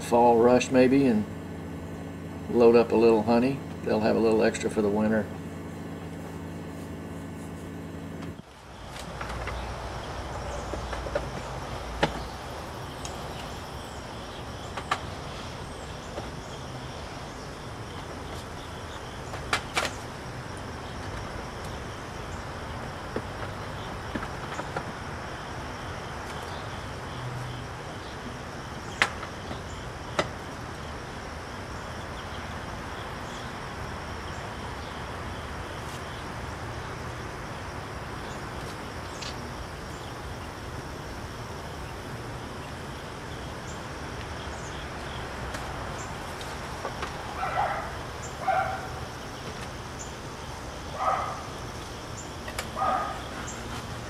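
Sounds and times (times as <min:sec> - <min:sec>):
outdoor background: 0:00.0 - 0:54.0.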